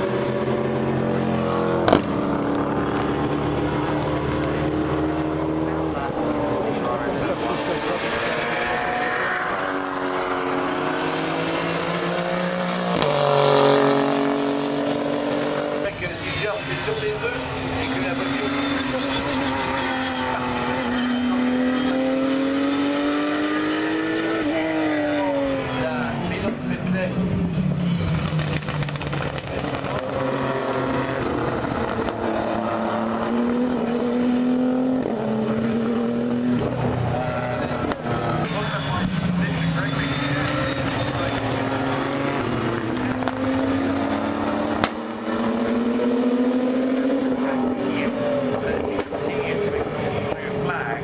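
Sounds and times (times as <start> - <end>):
race car accelerating: 0.0 - 51.0.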